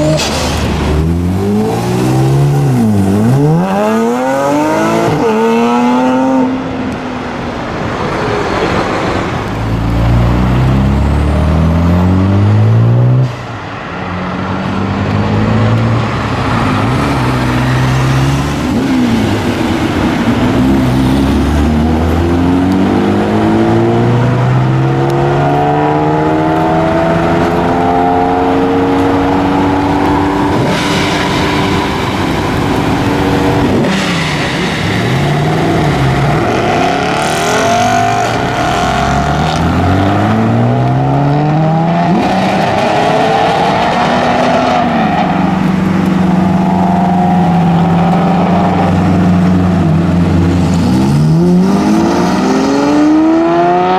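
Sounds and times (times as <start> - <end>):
car engines accelerating hard: 0.0 - 53.9.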